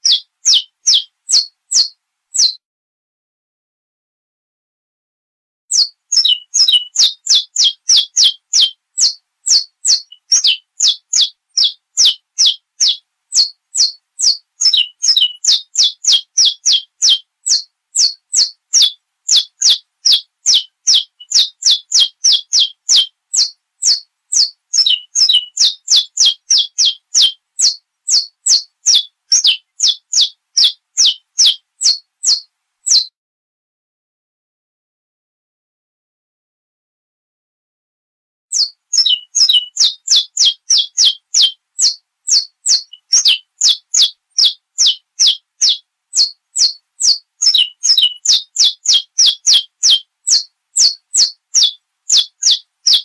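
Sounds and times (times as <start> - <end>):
finch singing: 0.0 - 2.6, 5.7 - 33.1, 38.5 - 53.0.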